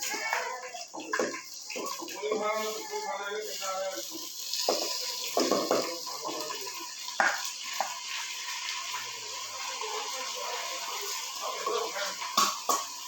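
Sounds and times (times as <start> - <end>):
rice sizzling in hot fat: 0.0 - 13.0.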